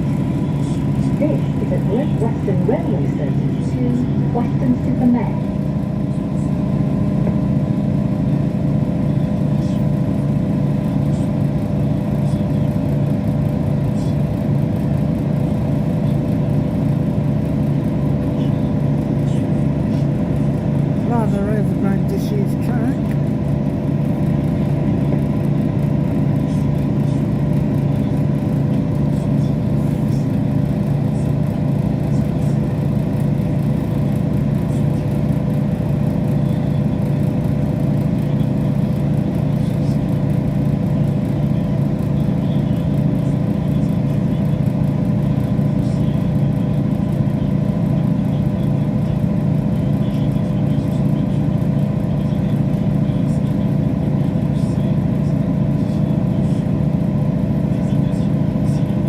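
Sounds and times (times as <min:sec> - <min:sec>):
train interior drone: 0:00.0 - 0:59.0.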